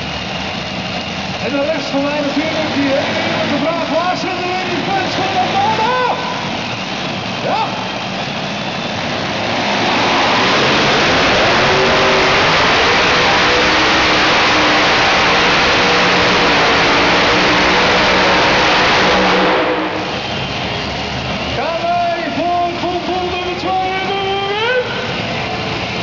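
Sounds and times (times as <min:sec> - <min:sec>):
pulling tractor engines roaring: 0:00.0 - 0:26.0.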